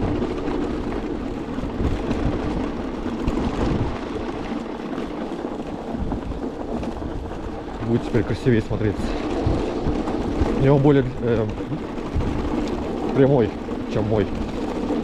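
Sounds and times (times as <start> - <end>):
tyre noise on snowy road: 0.0 - 15.0
wind on microphone: 0.0 - 15.0.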